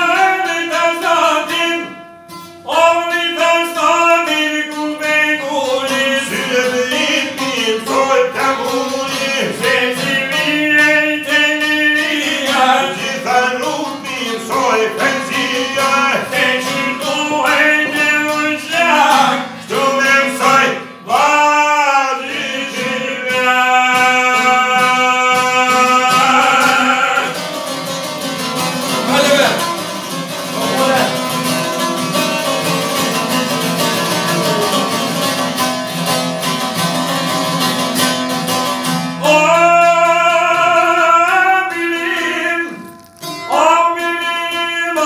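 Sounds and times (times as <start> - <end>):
plucked long-necked lute: 0.0 - 21.3, 21.9 - 45.0
man singing folk song: 0.0 - 45.0.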